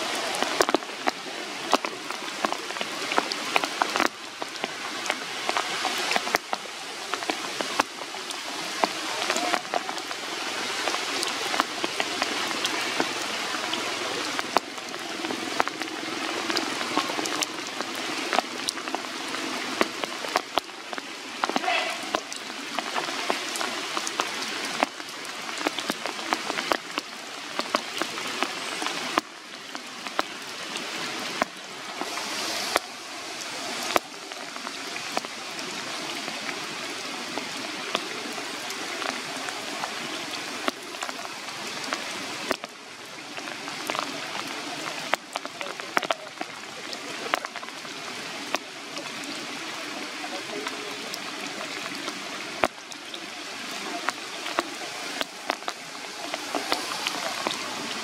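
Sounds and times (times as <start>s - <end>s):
rain falling on leaves: 0.0s - 58.0s
raindrops ticking nearby: 0.0s - 58.0s.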